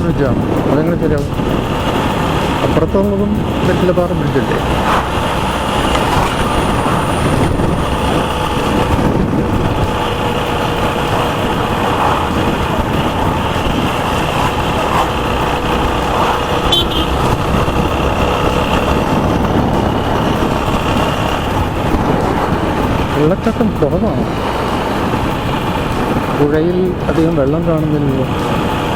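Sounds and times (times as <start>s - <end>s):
motorcycle engine running: 0.0s - 28.9s
road noise rushing: 0.0s - 28.9s.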